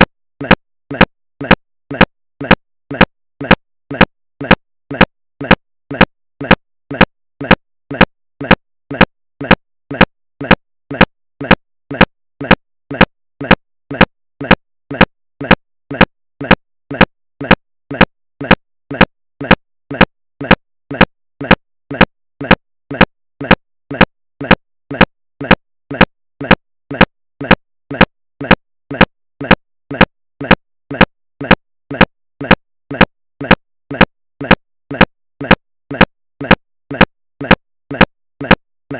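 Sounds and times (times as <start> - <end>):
mechanical repeating beat: 0.0 - 38.6.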